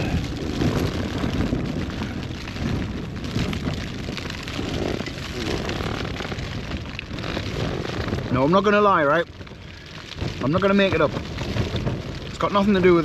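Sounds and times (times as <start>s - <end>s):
rain on a tent flysheet: 0.0s - 13.0s
storm wind buffeting a tent: 0.0s - 13.0s.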